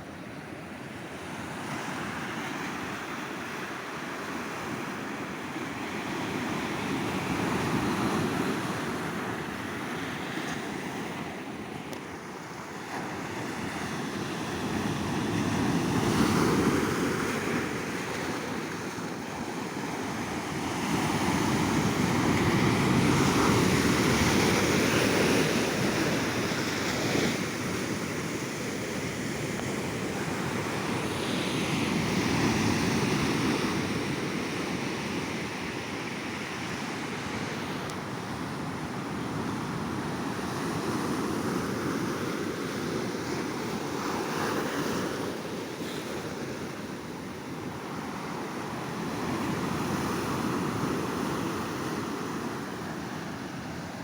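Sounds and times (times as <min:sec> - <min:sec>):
ocean waves breaking on beach: 0:00.0 - 0:54.0
wind: 0:00.0 - 0:54.0.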